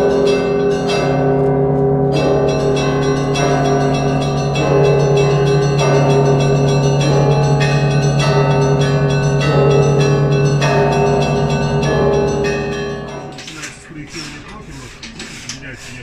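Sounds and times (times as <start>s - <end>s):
deep steady hum: 0.0s - 14.2s
church bells ringing: 0.0s - 15.4s.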